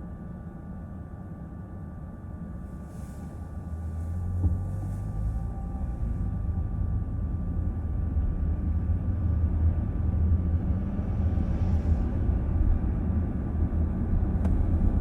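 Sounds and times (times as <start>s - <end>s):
car road and tyre rumble: 2.6s - 15.0s.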